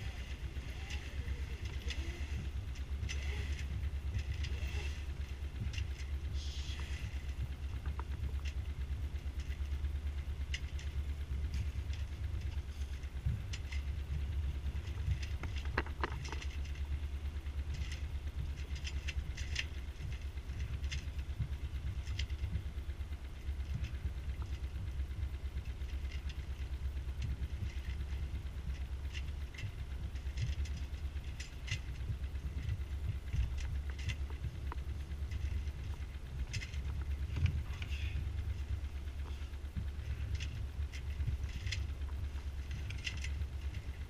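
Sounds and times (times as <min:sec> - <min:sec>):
light ticks and patters: 0:00.0 - 0:44.0.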